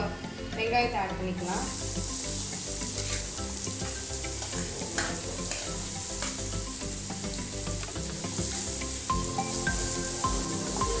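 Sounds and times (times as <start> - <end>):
onions sizzling in hot oil: 1.4 - 11.0.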